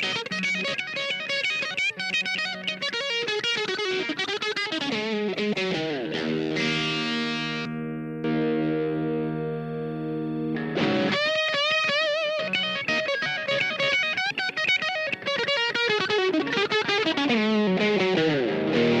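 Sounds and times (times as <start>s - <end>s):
overdriven electric guitar: 0.0s - 19.0s.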